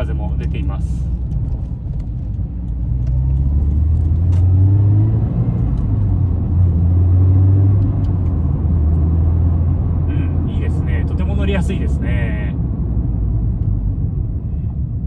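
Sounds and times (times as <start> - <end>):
car engine droning in cabin: 0.0 - 15.0.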